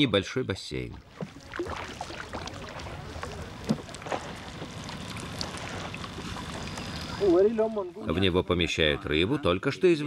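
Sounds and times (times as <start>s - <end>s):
water splashing and sloshing: 0.0s - 9.0s
rushing water background: 0.0s - 10.0s.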